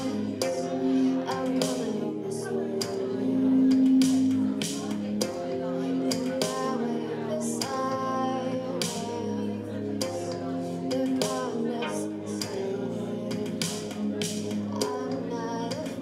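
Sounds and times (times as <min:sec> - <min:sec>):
sustained instrumental backing: 0:00.0 - 0:16.0
woman singing into a microphone: 0:00.0 - 0:16.0.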